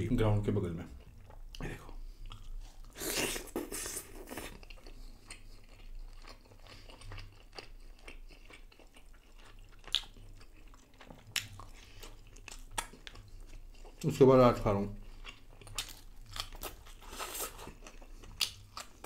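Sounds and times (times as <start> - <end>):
soft chewing: 0.8 - 19.0.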